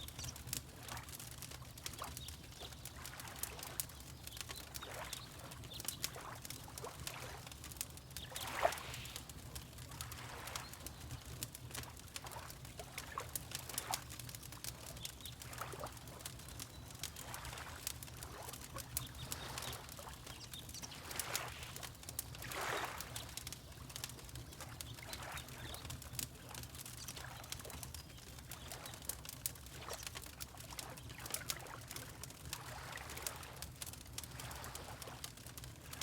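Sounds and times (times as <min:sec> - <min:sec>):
water lapping: 0:00.0 - 0:36.0
wood fire crackling and popping: 0:00.0 - 0:36.0.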